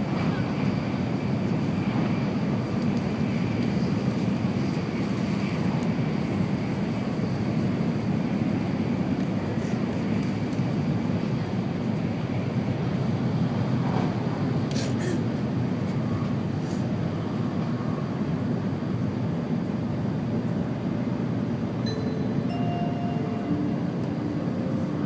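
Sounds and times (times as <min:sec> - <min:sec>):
train rumble inside cabin: 0:00.0 - 0:25.0.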